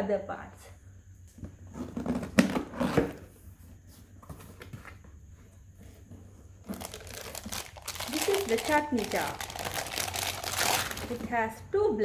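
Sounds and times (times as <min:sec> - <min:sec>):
knocks and rustles of packaging: 0:01.4 - 0:11.4.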